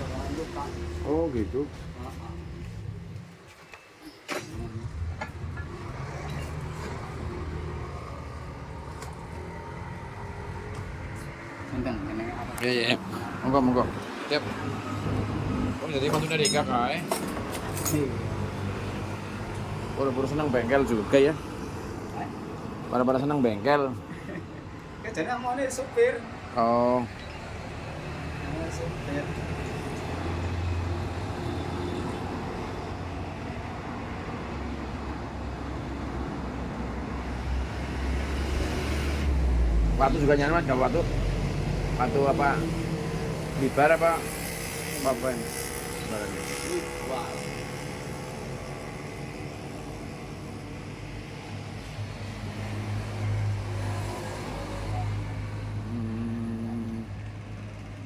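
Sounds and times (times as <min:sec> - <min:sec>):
vehicle engine rumble: 0:04.4 - 0:25.1, 0:27.3 - 0:58.0.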